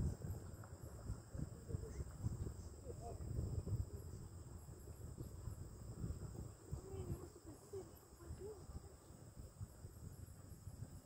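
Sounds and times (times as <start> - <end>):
insects chirping: 0.0 - 11.0
steady insect whine: 0.0 - 11.0.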